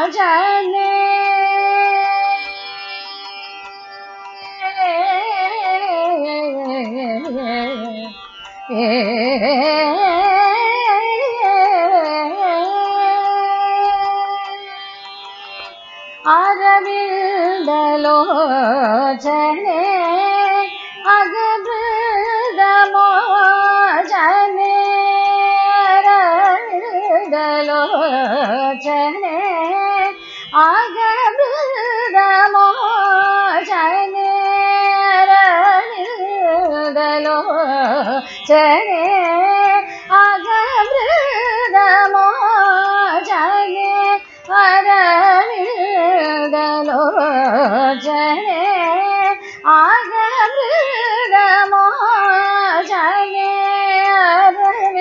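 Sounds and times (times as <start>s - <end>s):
woman singing ornamented phrases: 0.0s - 15.1s, 16.2s - 55.0s.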